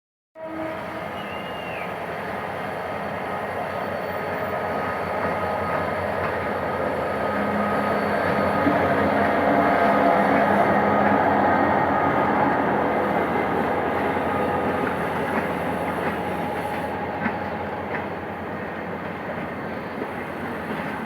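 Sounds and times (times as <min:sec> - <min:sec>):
locomotive engine and wheels rumbling: 0:00.6 - 0:21.0.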